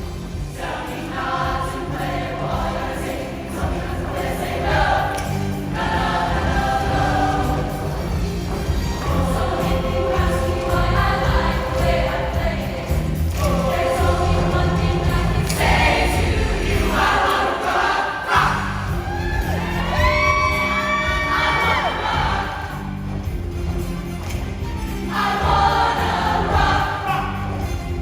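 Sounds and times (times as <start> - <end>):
choir singing: 0.0 - 28.0
loud instrumental accompaniment: 0.0 - 28.0.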